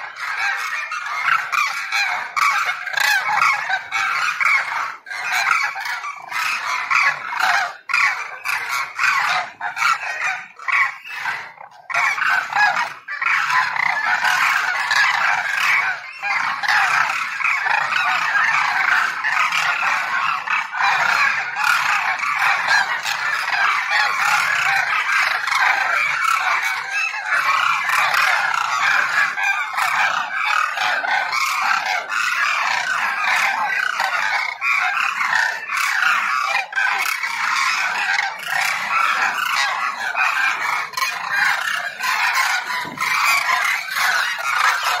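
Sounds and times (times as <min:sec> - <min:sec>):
flock of cranes calling: 0:00.0 - 0:45.0.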